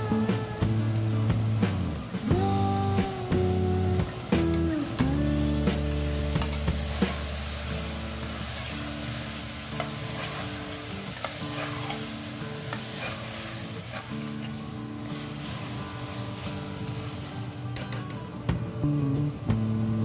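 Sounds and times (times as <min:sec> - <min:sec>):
meat sizzling in a pot: 0:00.0 - 0:18.1.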